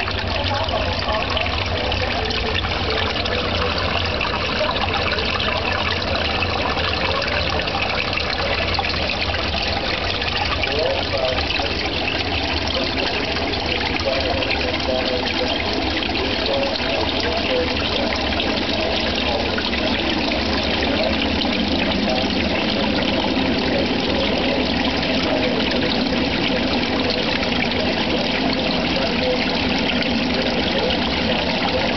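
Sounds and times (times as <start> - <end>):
water rushing and trickling: 0.0 - 31.9.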